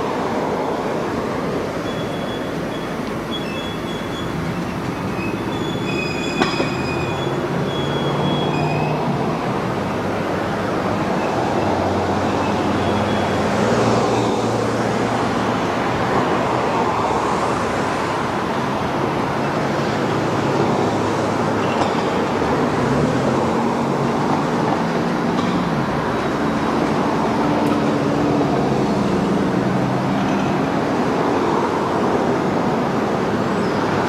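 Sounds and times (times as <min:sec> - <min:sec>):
train wheels rumbling on rail: 0:00.0 - 0:34.0
high wheel squeals: 0:00.3 - 0:34.0.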